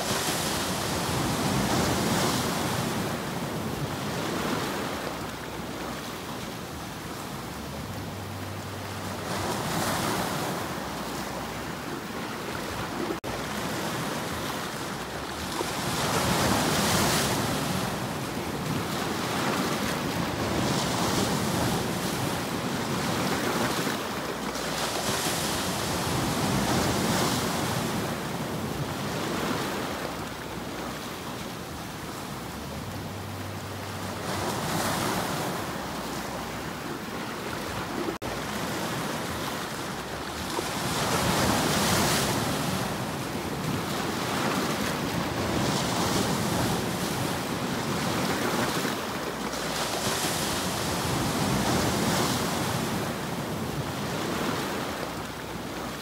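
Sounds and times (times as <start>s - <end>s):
sea waves breaking on rocks: 0.0s - 8.0s, 9.0s - 33.0s, 34.0s - 56.0s.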